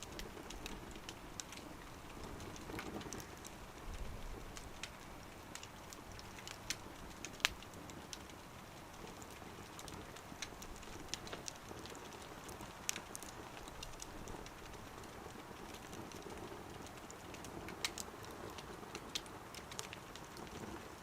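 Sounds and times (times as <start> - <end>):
firewood crackling in stove: 0.0 - 21.0.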